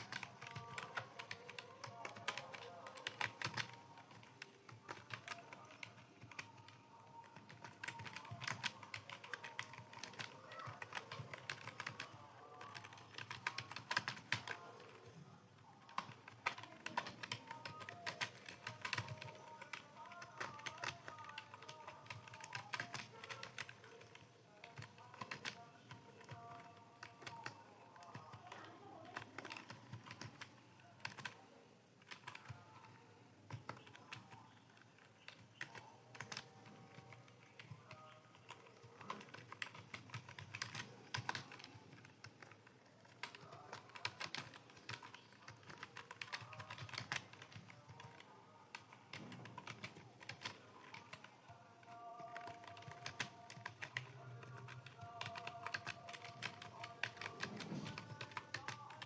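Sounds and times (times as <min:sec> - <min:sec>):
faint keyboard typing: 0:00.0 - 0:59.0.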